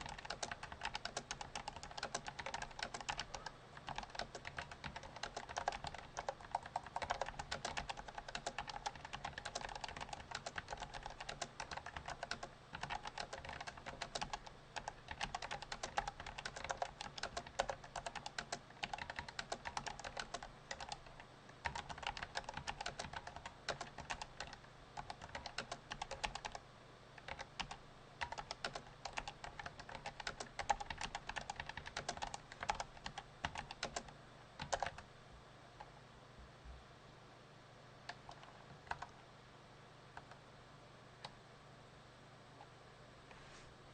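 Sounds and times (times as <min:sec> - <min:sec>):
fast typing on a keyboard: 0:00.0 - 0:26.6, 0:27.2 - 0:35.0, 0:38.1 - 0:39.2.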